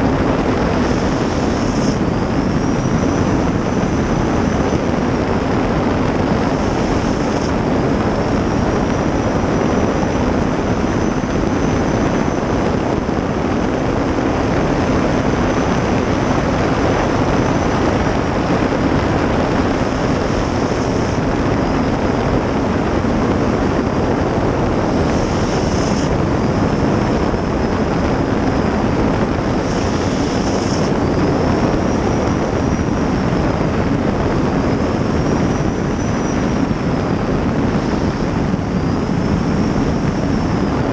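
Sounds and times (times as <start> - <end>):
faint high whine: 0.0 - 40.9
jet boat turbine roaring: 0.0 - 40.9.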